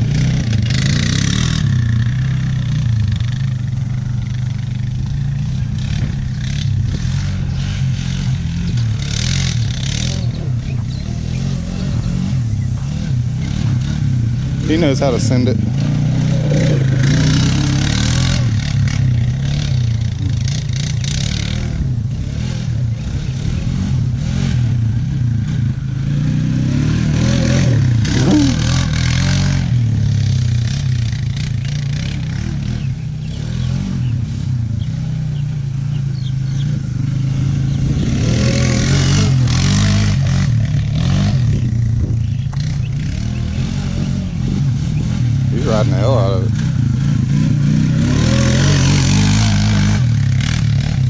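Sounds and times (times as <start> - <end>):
quad bike engine revving: 0.0 - 51.0.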